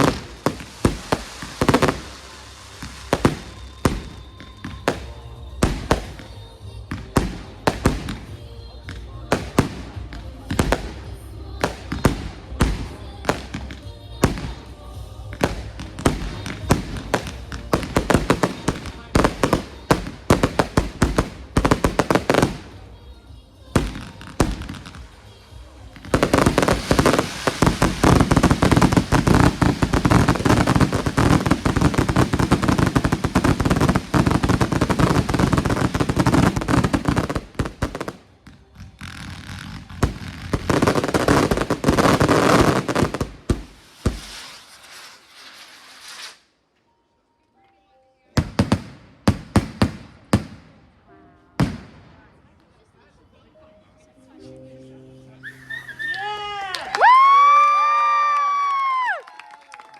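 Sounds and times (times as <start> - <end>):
music playing: 0.0 - 44.4, 46.8 - 58.2
fireworks bangs and crackles: 0.0 - 46.5, 48.4 - 51.0, 51.6 - 52.4.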